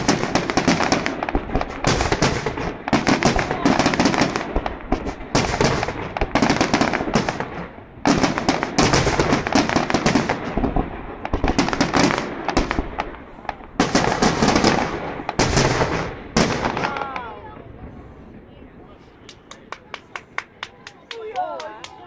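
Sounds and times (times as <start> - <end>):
fireworks bursts and crackling: 0.0 - 18.4, 19.0 - 22.0.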